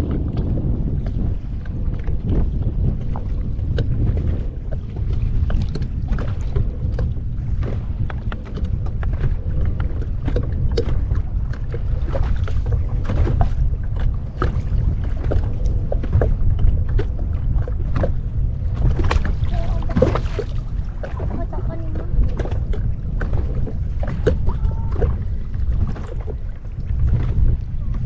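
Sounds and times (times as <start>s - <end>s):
water splashing against kayak: 0.0s - 28.0s
wind rumble on microphone: 0.0s - 28.0s.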